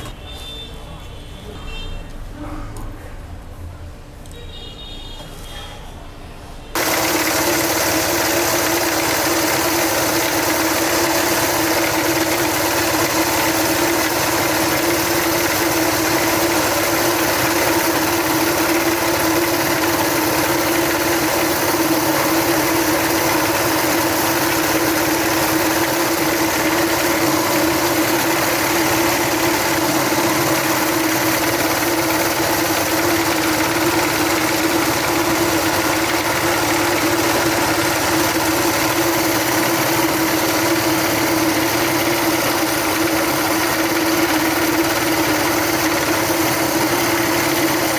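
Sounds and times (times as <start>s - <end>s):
electric meat grinder whirring: 6.8s - 47.9s.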